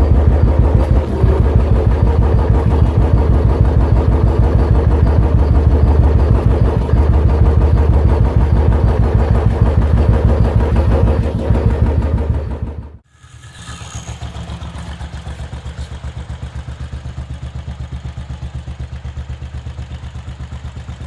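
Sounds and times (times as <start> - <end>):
motorcycle engine idling: 0.0 - 13.0, 14.0 - 21.0.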